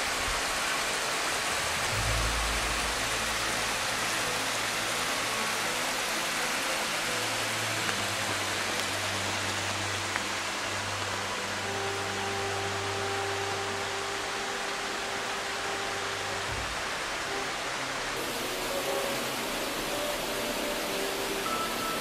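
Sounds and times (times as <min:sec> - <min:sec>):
waterfall splashing into pool: 0:00.0 - 0:22.0.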